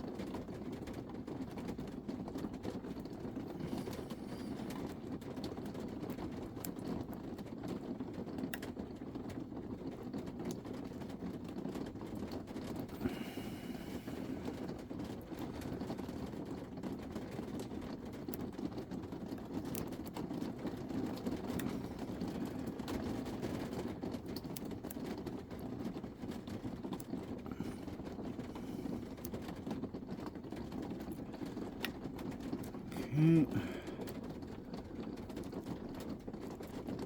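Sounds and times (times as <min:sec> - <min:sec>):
low background hum: 0:00.2 - 0:07.1, 0:12.3 - 0:37.0.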